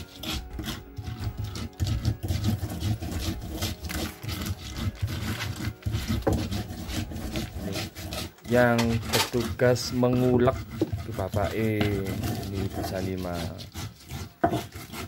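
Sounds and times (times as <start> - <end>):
pestle scraping and knocking in mortar: 0.0 - 15.0.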